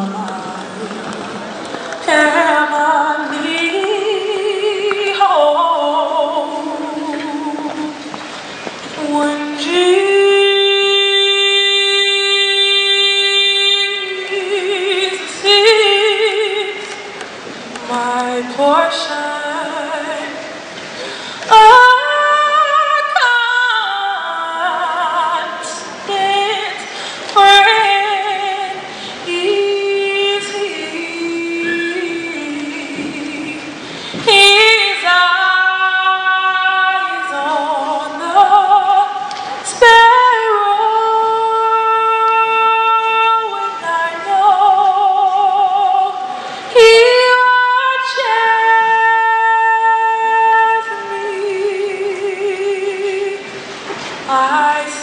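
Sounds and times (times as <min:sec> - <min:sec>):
person singing with vibrato: 0:00.0 - 0:55.0.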